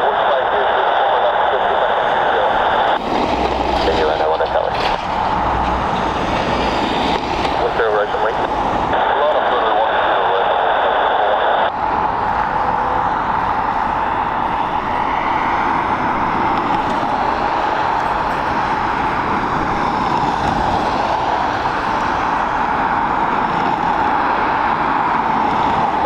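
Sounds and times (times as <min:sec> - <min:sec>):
jet airliner engines: 0:00.0 - 0:26.0.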